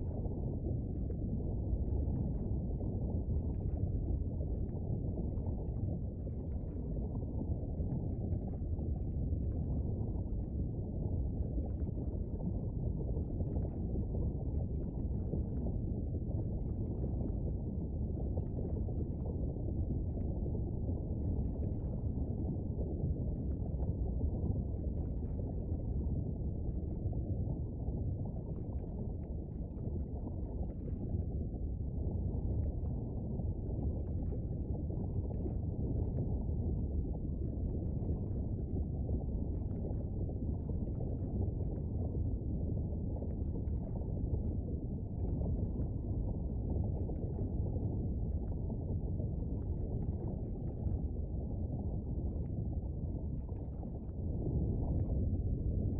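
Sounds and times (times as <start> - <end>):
deep rumble: 0.0 - 55.9
faint bubbling pops: 0.0 - 55.9.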